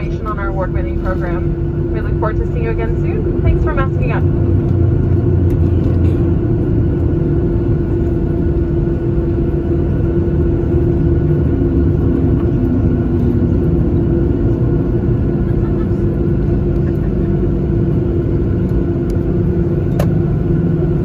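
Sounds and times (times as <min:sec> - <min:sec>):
aircraft engines humming: 0:00.0 - 0:21.0
low rumble of wheels: 0:00.0 - 0:21.0.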